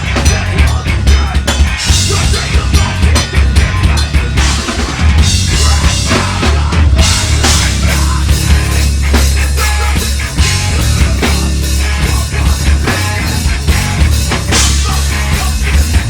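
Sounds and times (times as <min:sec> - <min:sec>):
heavy metal band playing live: 0:00.0 - 0:16.0
loud dense drumming: 0:00.0 - 0:16.0.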